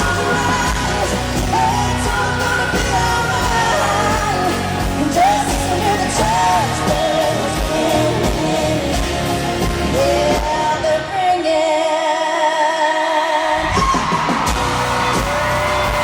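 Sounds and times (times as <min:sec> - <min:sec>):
pop-country band playing live: 0:00.0 - 0:12.4, 0:13.4 - 0:16.0
woman singing: 0:00.0 - 0:14.2.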